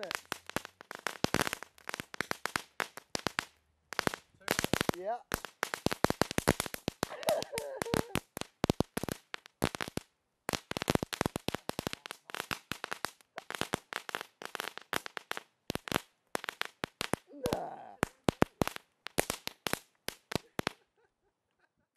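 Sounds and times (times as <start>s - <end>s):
ground firework crackling: 0.0s - 21.0s.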